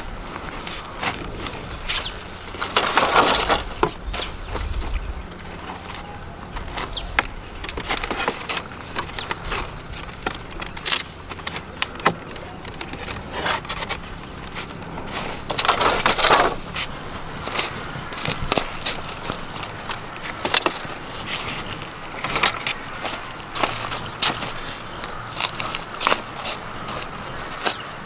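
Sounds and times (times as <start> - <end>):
crackling scraping burst: 0.0 - 28.0.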